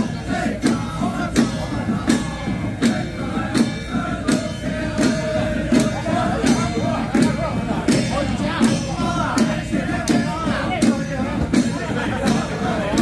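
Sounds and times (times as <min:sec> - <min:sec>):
percussion strikes: 0:00.0 - 0:13.0.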